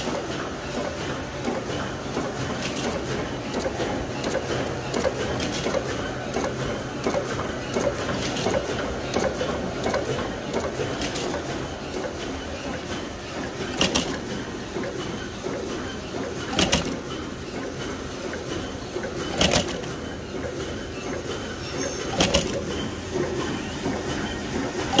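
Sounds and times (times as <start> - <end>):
printing press running: 0.0 - 25.0
quick mechanical clicks: 0.0 - 25.0.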